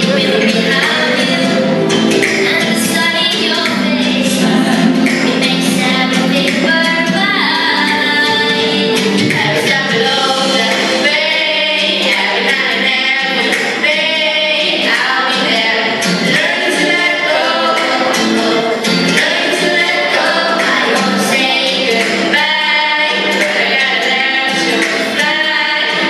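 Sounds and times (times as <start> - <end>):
children singing along: 0.0 - 26.0
girls singing into microphones: 0.0 - 26.0.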